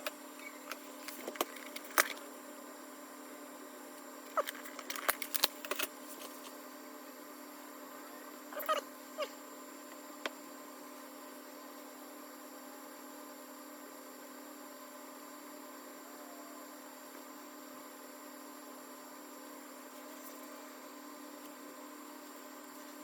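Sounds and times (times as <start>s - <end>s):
electrical hum and hiss: 0.0s - 23.0s.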